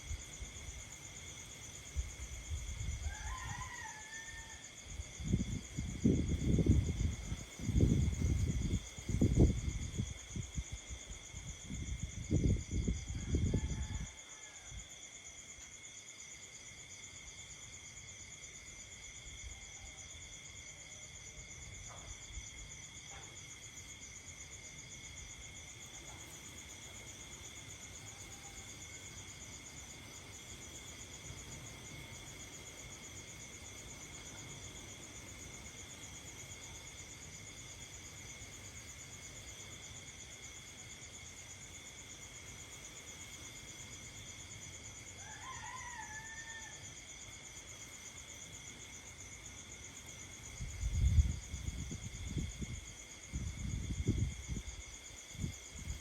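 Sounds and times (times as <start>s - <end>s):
night insects chorusing: 0.0s - 56.0s.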